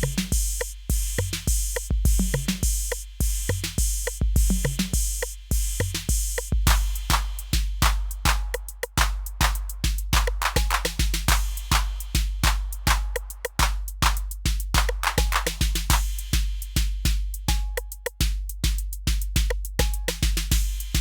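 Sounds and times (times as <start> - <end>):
booming kick drum: 0.0 - 21.0
hi-hats: 0.0 - 21.0
snare drum: 0.0 - 21.0.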